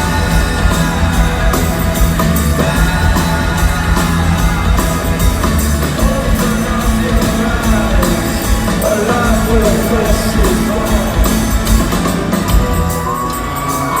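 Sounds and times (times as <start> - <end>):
bass guitar: 0.0 - 14.0
drums: 0.0 - 14.0
person singing: 0.0 - 14.0.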